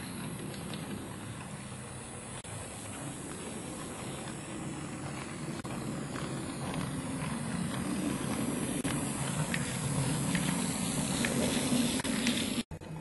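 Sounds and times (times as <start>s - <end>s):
wheels rumbling on track: 0.0s - 12.7s
model train motor hum: 0.0s - 13.0s
wheels clicking on rail joints: 0.0s - 13.0s.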